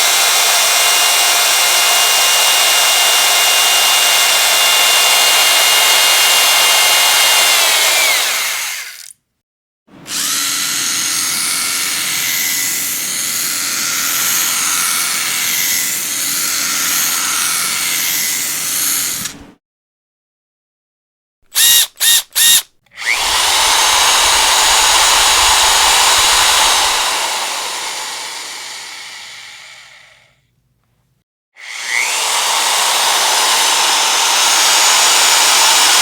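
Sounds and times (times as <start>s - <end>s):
power drill running: 0.0s - 9.1s, 10.1s - 19.3s, 21.5s - 30.3s, 31.6s - 36.0s.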